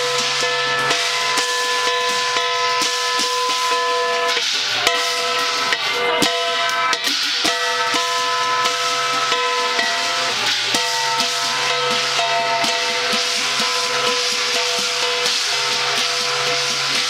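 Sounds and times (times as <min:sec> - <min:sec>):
drum and cymbal strikes: 0:00.0 - 0:17.0.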